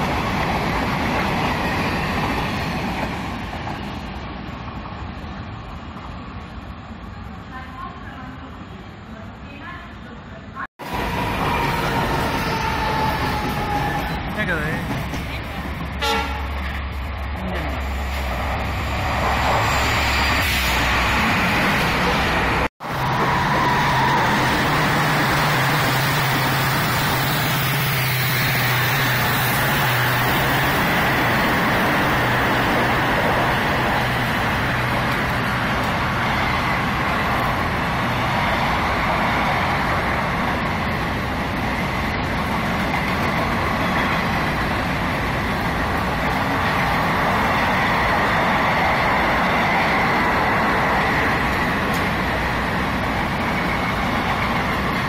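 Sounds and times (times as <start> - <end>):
train wheels rushing on rails: 10.8 - 55.0.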